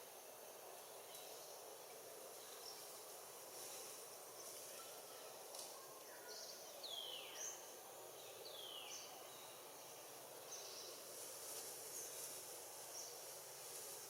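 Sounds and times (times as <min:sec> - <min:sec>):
insects hissing: 0:00.0 - 0:14.0.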